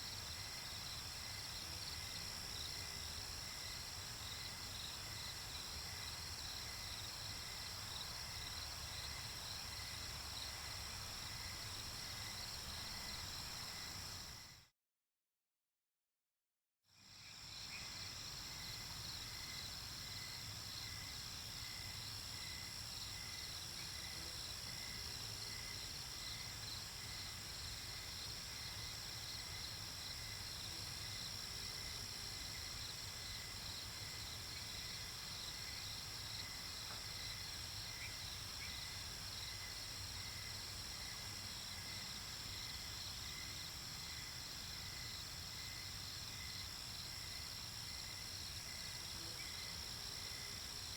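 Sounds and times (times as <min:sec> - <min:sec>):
crickets chirping: 0:00.0 - 0:14.6, 0:17.0 - 0:50.9.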